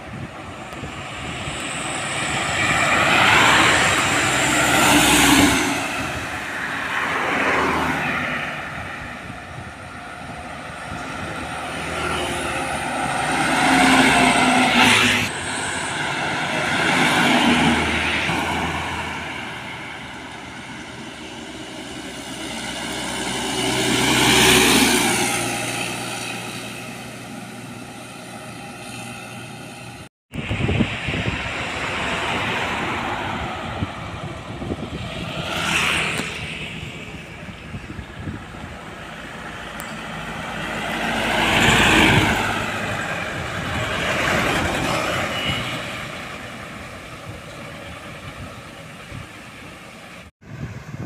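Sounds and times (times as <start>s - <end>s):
vehicles passing on highway: 0.0s - 51.0s.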